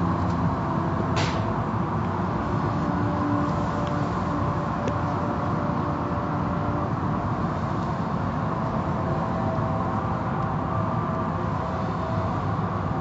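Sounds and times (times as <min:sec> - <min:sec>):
car wash machinery: 0:00.0 - 0:13.0.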